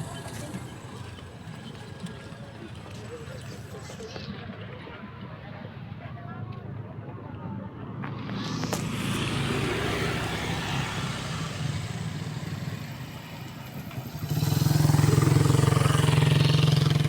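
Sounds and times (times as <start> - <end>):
road vehicles passing: 0.0 - 17.0.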